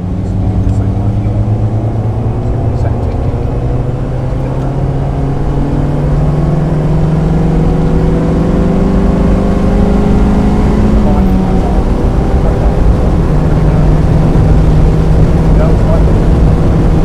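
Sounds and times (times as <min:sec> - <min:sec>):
car engine revving up: 0:00.0 - 0:17.0.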